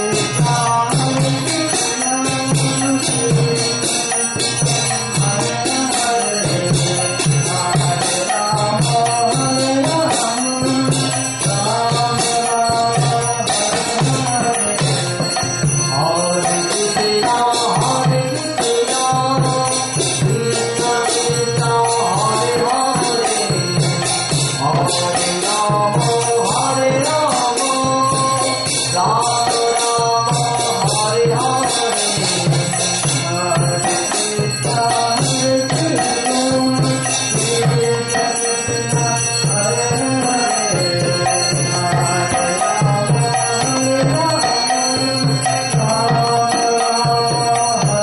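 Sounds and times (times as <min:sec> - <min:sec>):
harmonium drone: 0:00.0 - 0:48.0.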